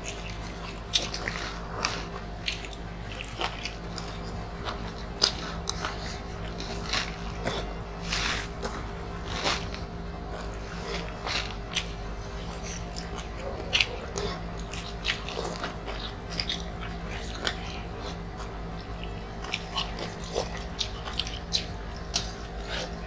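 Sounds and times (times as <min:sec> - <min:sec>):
low hum: 0:00.0 - 0:23.0
people chewing food: 0:00.0 - 0:23.0.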